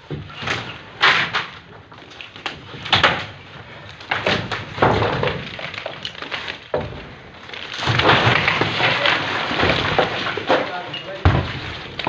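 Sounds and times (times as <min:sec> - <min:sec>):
wooden planks knocking and clattering: 0:00.0 - 0:12.0.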